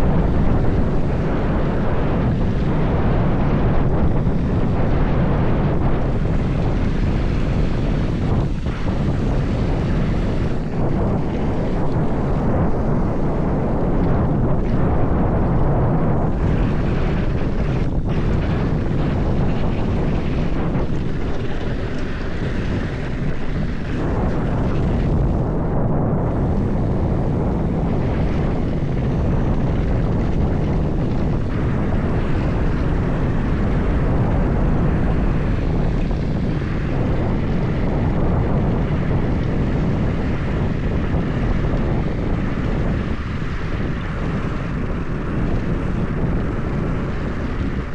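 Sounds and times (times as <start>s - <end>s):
bike tyres rumbling on trail: 0.0s - 47.9s
wind rushing over microphone: 0.0s - 47.9s.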